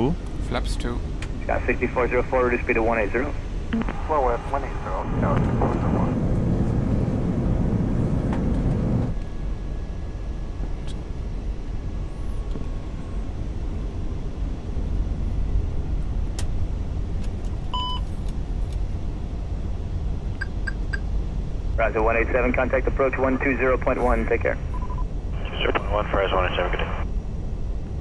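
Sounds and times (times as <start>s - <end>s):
air conditioning rumble: 0.0s - 28.0s.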